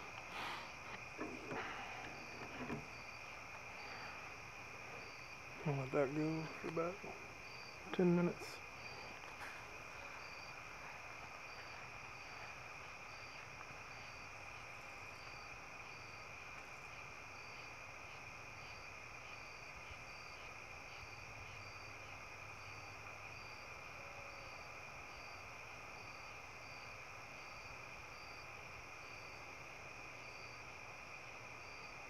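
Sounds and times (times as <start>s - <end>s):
crickets trilling: 0.0s - 32.0s
insect chirping: 0.0s - 32.0s.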